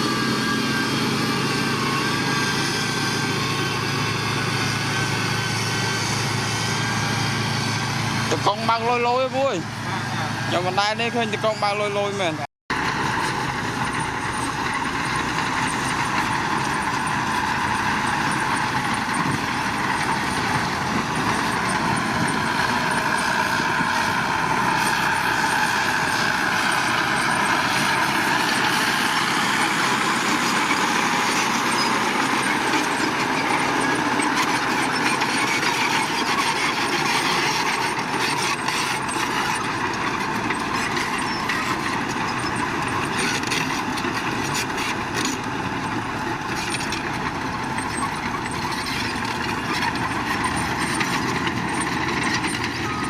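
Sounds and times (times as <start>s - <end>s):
heavy machinery engine running: 0.0s - 53.0s.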